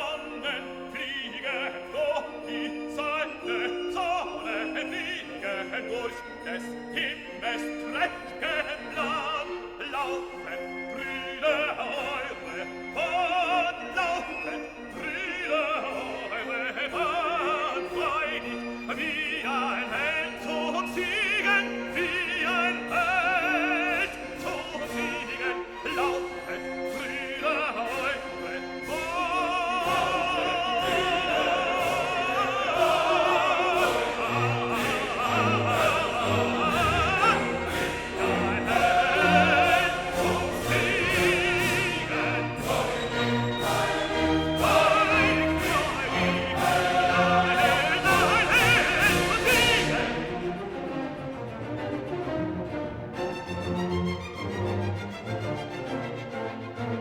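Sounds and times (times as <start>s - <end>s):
operatic singing with vibrato: 0.0s - 57.0s
orchestral accompaniment: 0.0s - 57.0s.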